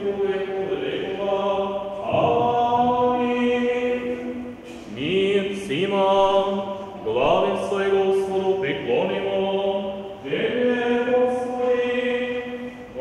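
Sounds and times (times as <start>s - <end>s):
liturgical chanting: 0.0s - 13.0s.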